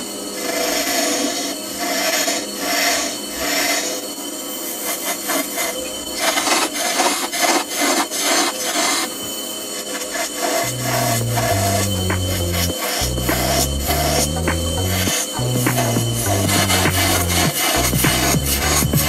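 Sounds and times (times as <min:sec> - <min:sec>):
lathe tool scraping wood: 0:00.0 - 0:19.0.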